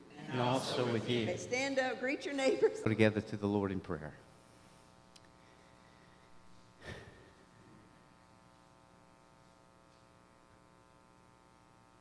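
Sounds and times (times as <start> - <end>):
electrical buzzing hum: 0.0 - 12.0.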